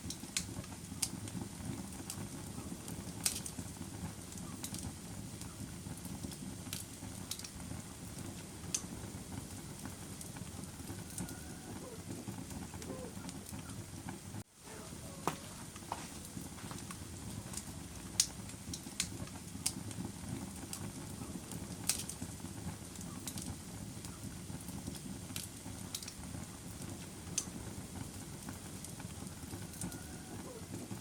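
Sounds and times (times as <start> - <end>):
fire pops and snaps: 0.0 - 14.5, 15.2 - 31.0
wood fire crackling: 0.0 - 31.0.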